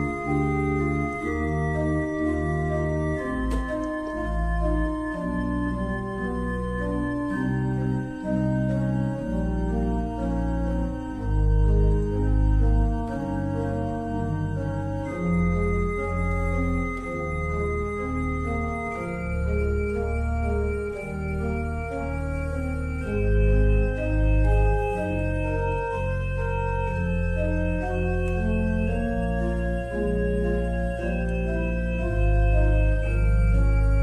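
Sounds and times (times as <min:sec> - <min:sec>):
organ playing slow chords: 0:00.0 - 0:34.0.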